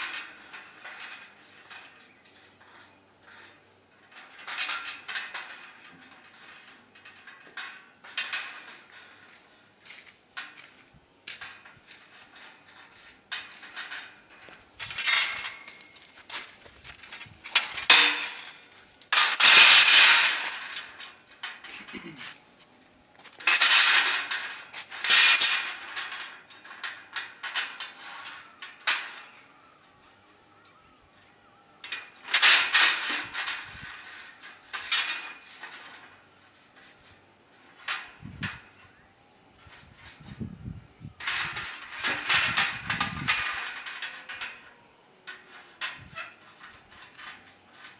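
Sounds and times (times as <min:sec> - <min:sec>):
steel bars clanking and scraping: 0:00.0 - 0:22.4, 0:23.2 - 0:47.9.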